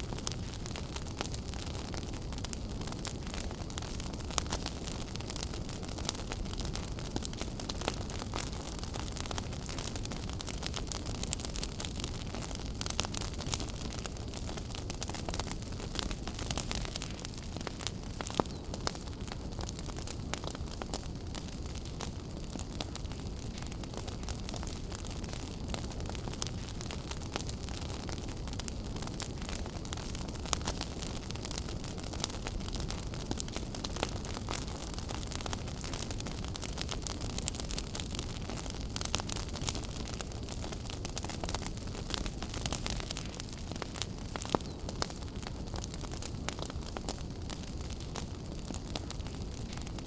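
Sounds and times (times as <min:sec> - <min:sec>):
fire crackling and popping: 0:00.0 - 0:50.0
low rumble of flames: 0:00.0 - 0:50.0.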